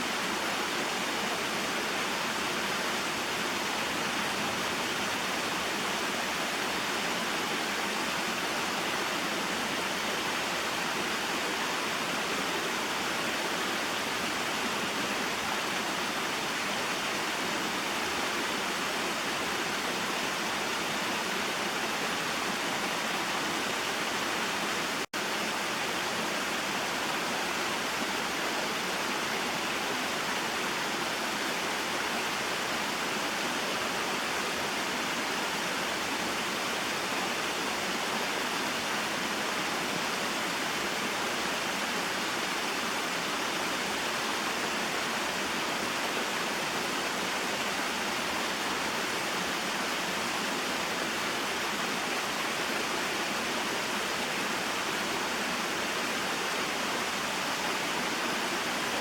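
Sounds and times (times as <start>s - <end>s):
rushing water of waterfall: 0.0s - 59.0s.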